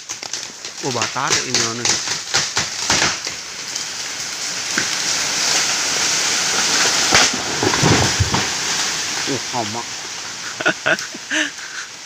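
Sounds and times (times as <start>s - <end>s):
sharp branch crack: 0.0s - 11.2s
dry leaves and branches rustling: 0.0s - 12.0s.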